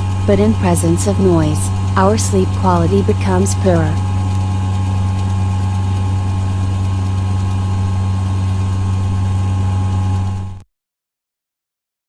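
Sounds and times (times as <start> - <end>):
faint high steady tones: 0.0 - 10.6
loud low mechanical hum: 0.0 - 10.6.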